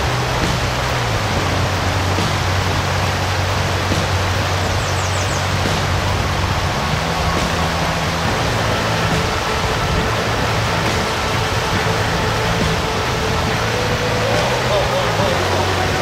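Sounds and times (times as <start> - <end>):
low hum: 0.0 - 16.0
underwater river current rushing: 0.0 - 16.0.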